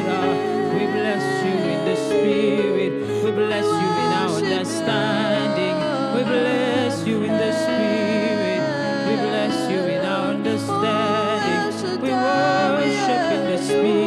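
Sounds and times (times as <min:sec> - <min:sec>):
sustained accompaniment chords: 0:00.0 - 0:14.0
women singing gospel: 0:00.0 - 0:14.0.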